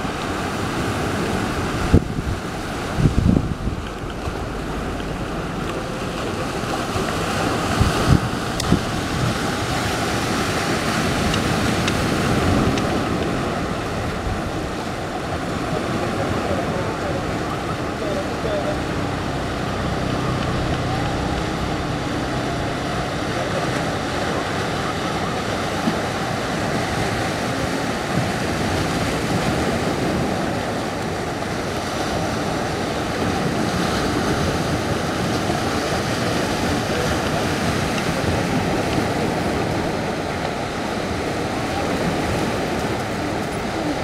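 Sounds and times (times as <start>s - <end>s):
ocean waves breaking on rocks: 0.0s - 44.0s.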